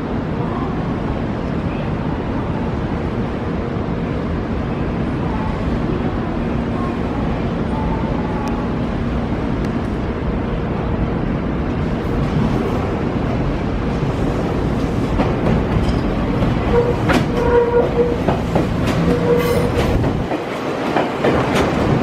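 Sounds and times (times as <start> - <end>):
electric train rumble: 0.0 - 22.0.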